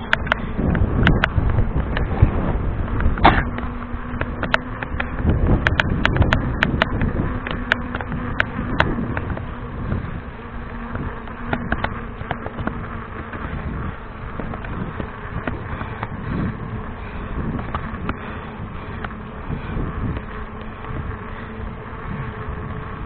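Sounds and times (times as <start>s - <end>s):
faint steady buzz: 0.0s - 23.0s
mountain bike riding rumble: 0.0s - 23.0s.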